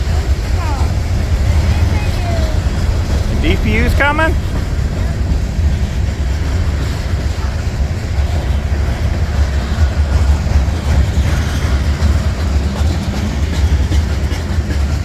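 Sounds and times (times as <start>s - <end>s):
freight train rumbling: 0.0s - 15.0s
wheels clacking over rail joints: 0.0s - 15.0s.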